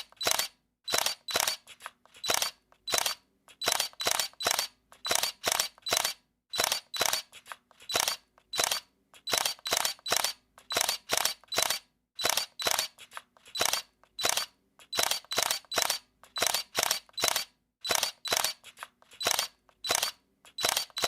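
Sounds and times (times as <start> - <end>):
camera shutter clicking: 0.0 - 21.0.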